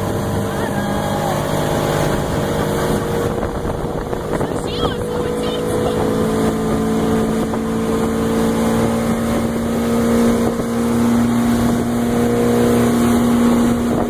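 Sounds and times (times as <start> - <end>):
motorboat engine running: 0.0 - 14.0
wind noise on microphone: 1.9 - 14.0.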